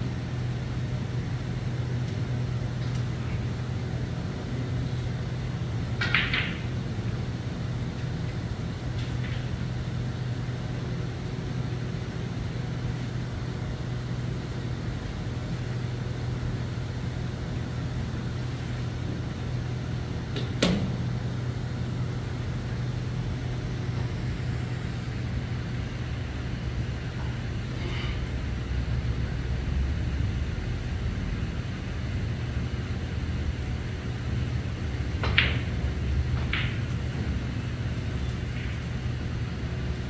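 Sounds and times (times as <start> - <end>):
mechanical room hum: 0.0 - 40.0.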